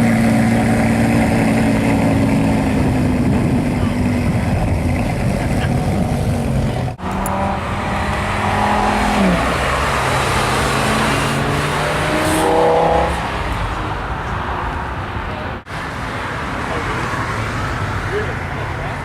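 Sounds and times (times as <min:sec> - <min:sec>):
road and wind rush: 0:00.0 - 0:19.0
sports car engine and exhaust: 0:00.0 - 0:19.0.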